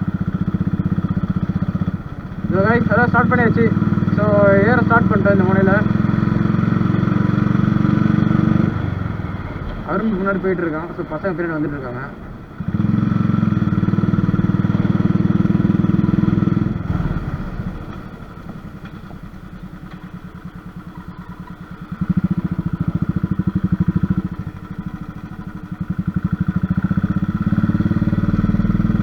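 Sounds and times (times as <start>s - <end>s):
motorcycle engine climbing hill: 0.0s - 29.0s.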